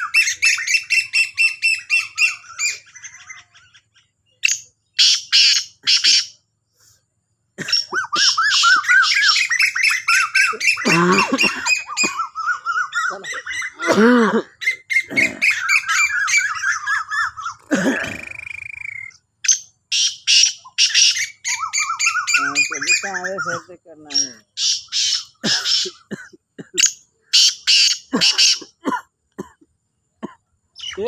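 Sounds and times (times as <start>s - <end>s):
francolins calling harshly: 0.0s - 7.0s, 7.6s - 29.0s, 30.7s - 31.0s.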